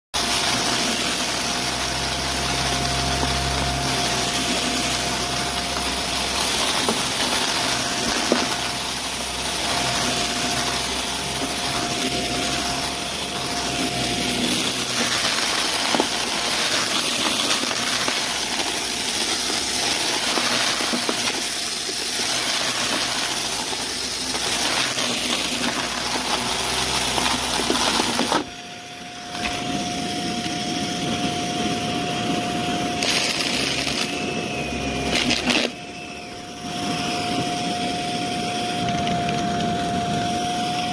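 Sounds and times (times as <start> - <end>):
vacuum cleaner running: 0.1 - 40.9
debris crackling in vacuum: 0.2 - 40.9.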